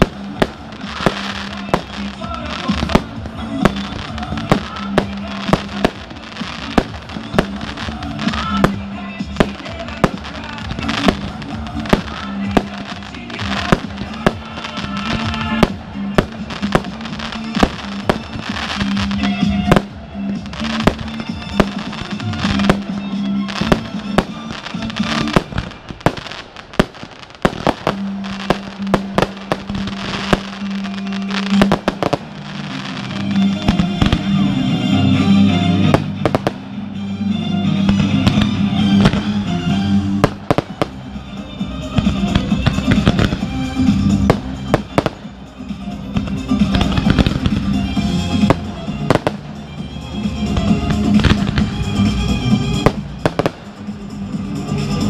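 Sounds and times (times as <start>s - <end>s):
fireworks bangs and crackles: 0.0s - 37.0s, 37.7s - 55.0s
music playing: 0.0s - 55.0s.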